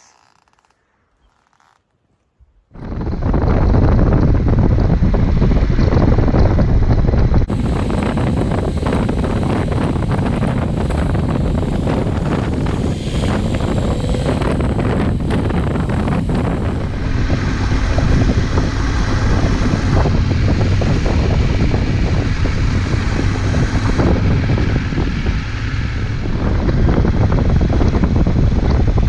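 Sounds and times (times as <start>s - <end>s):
wind buffeting microphone: 2.7s - 29.0s
motorcycle engine running: 2.8s - 29.0s.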